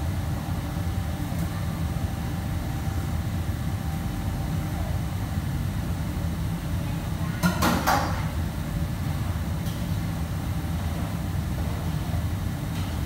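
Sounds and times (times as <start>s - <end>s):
low rumble of kitchen equipment: 0.0s - 13.0s.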